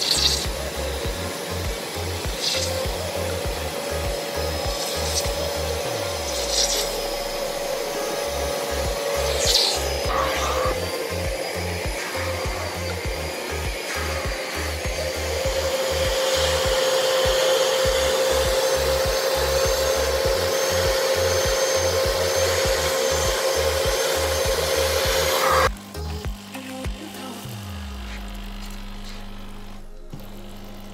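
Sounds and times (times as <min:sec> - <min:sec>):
extraction cleaner suction whine: 0:00.0 - 0:30.9.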